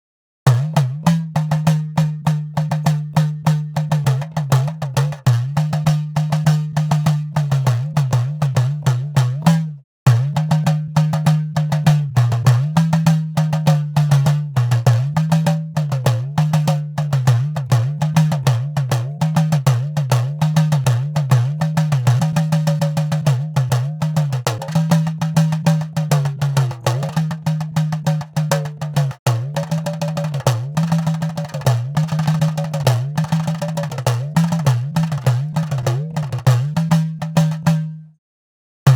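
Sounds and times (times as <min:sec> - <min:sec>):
hourglass drum pitch-bending rhythm: 0:00.5 - 0:37.9.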